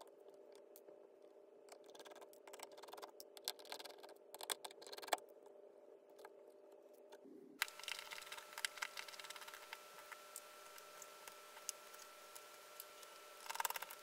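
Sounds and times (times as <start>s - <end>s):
faint hum with high whine: 0.0s - 14.0s.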